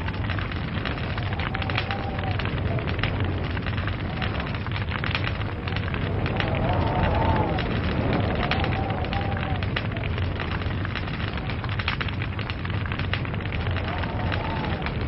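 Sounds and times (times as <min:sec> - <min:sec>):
log fire crackling: 0:00.0 - 0:15.0
low rumble of flames: 0:00.0 - 0:15.0.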